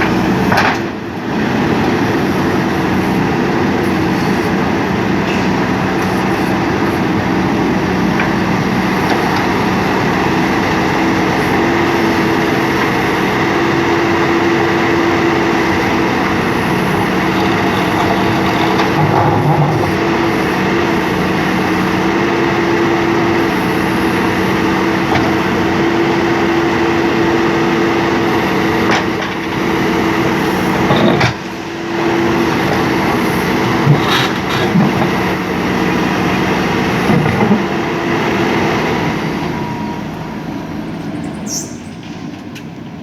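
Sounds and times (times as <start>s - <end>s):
diesel engine under load: 0.0s - 43.0s.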